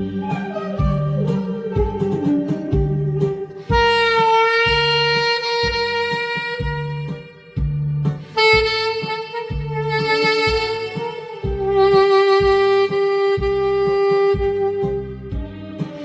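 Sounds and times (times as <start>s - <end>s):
drum and bass backing beat: 0.0s - 16.0s
saxophone slow melody: 0.0s - 16.0s.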